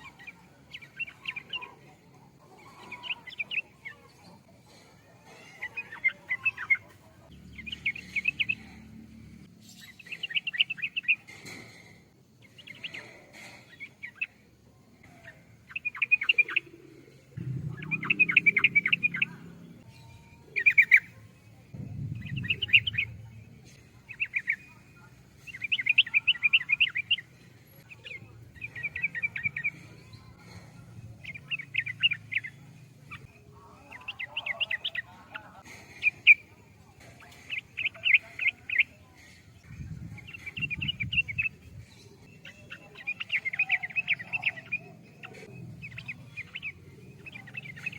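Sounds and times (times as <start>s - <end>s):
bulbul singing: 0.0s - 47.9s.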